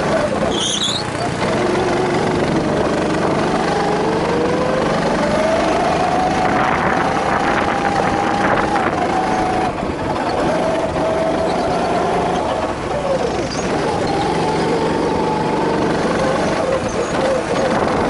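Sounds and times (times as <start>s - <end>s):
go-kart engine: 0.0s - 18.0s.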